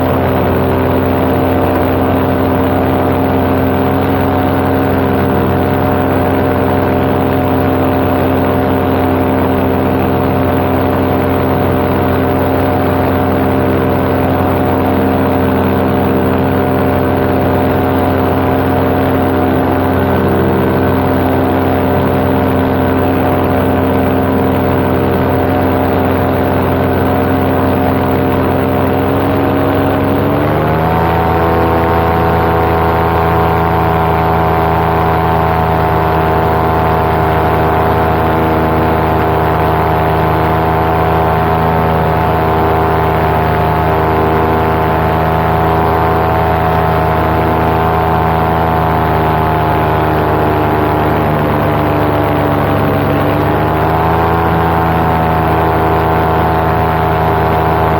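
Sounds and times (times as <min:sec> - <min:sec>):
paramotor engine and propeller: 0:00.0 - 0:57.9.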